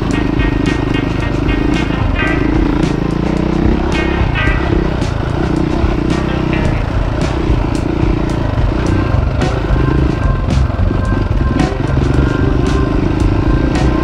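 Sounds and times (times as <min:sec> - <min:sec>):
dirt bike engine: 0:00.0 - 0:14.0.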